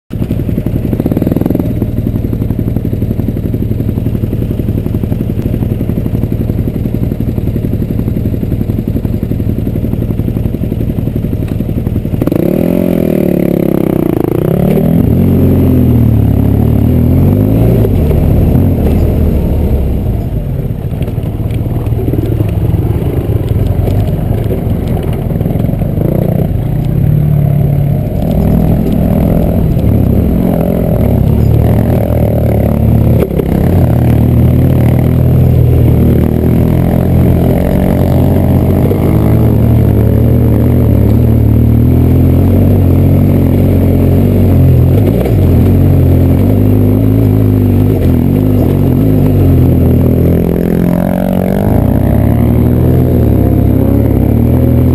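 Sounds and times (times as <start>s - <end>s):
motorcycle engine revving: 0.1s - 54.9s.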